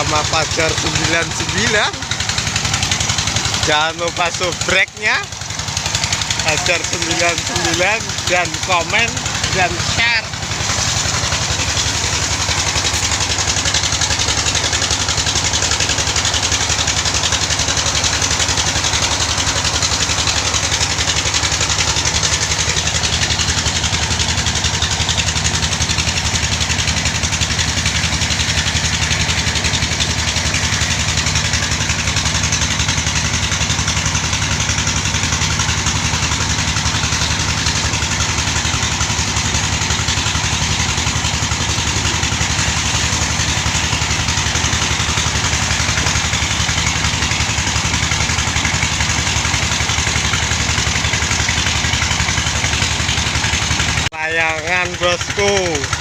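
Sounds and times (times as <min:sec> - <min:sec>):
engine pulsing steadily: 0:00.0 - 0:56.0.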